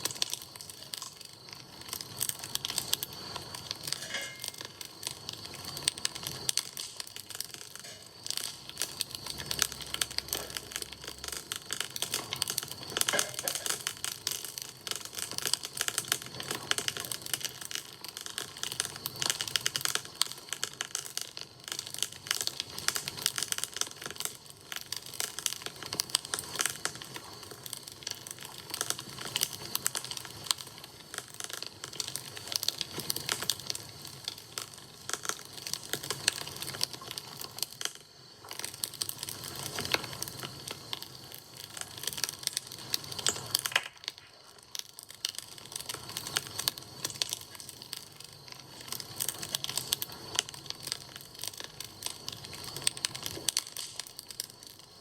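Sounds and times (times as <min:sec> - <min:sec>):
bonfire crackling: 0:00.0 - 0:55.0.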